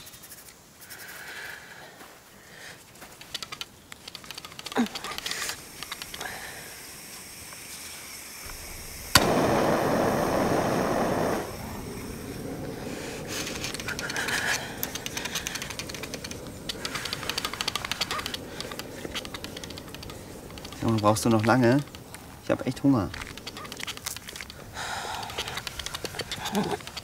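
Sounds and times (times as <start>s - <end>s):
gas torch clicking alight: 3.2s - 27.0s
gas torch flame rushing: 4.1s - 27.0s.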